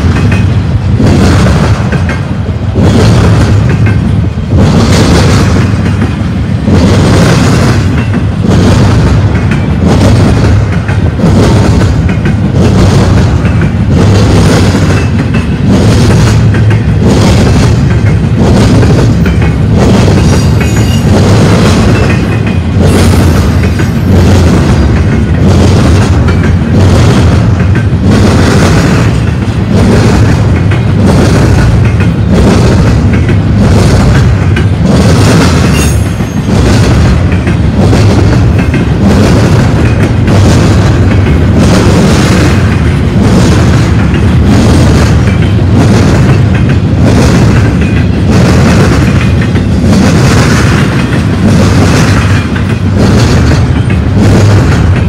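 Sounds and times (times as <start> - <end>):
freight train wheels rumbling on rail: 0.0 - 55.0
wheel trucks clacking: 0.0 - 55.0.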